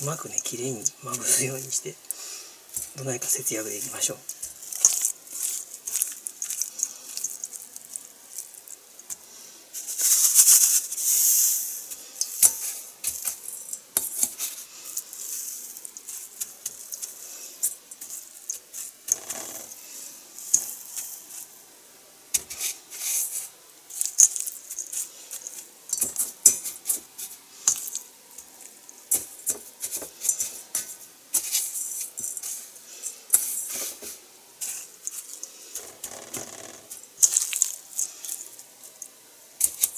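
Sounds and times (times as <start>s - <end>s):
chicken rustling in breadcrumbs: 0.5s - 39.9s.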